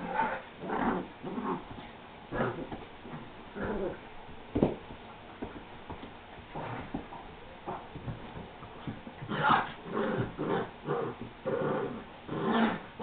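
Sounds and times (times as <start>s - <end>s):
dogs play-fighting vocalizations: 0.0s - 4.1s, 6.4s - 13.0s.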